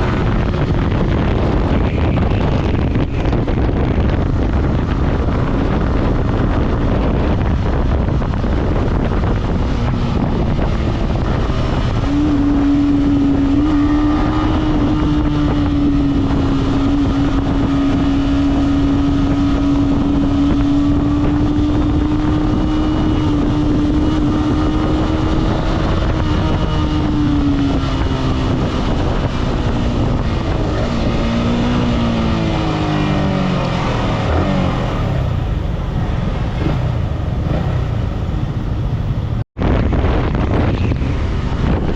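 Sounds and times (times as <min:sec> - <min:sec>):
motorcycle engine cruising: 0:00.0 - 0:41.9
wind noise on microphone: 0:00.0 - 0:41.9.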